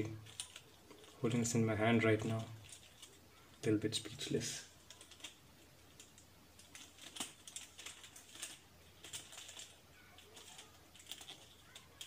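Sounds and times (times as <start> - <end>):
plastic puzzle clicking and rustling: 0.0 - 12.0.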